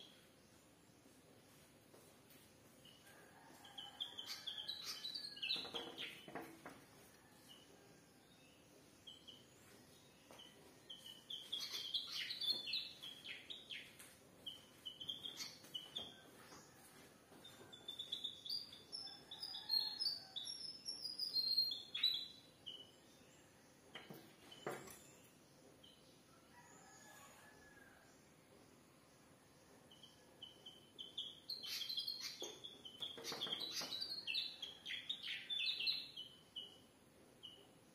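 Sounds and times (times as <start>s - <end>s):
small birds chirping: 0.0s - 27.1s, 28.7s - 37.9s.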